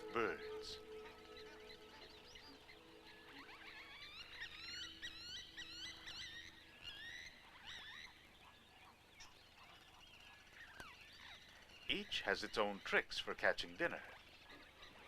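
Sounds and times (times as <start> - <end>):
wetland birds chirping: 0.0 - 15.0.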